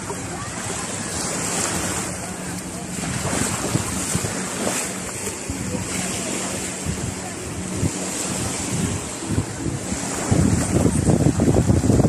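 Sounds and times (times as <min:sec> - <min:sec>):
faint voices: 0:00.0 - 0:11.8
waves washing onto sandy beach: 0:00.0 - 0:12.0
wind on microphone: 0:00.0 - 0:12.0.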